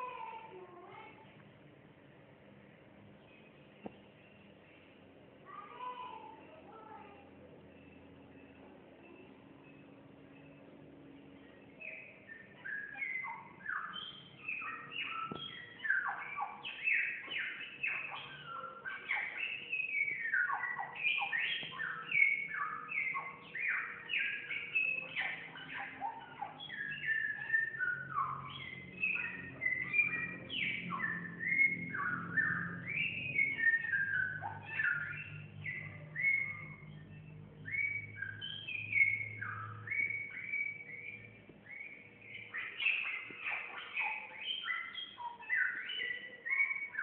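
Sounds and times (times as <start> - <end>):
bird singing whistled notes: 7.7 - 47.0.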